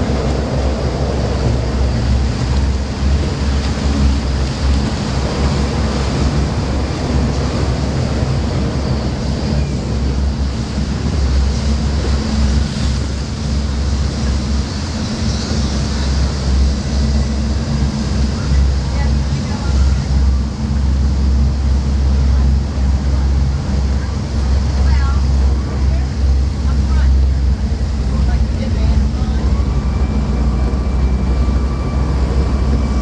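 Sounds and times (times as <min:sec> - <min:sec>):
powerboat engines droning: 0:00.0 - 0:33.0
water washing along hull: 0:00.0 - 0:33.0
wind buffeting microphone: 0:00.0 - 0:33.0.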